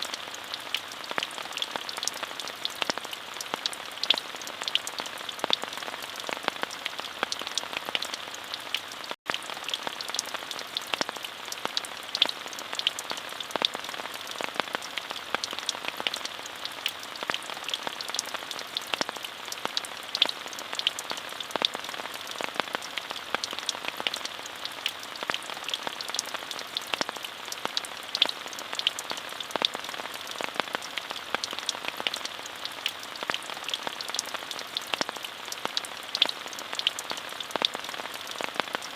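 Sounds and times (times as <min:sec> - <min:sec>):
rain falling: 0:00.0 - 0:38.9
raindrops ticking: 0:00.0 - 0:38.9.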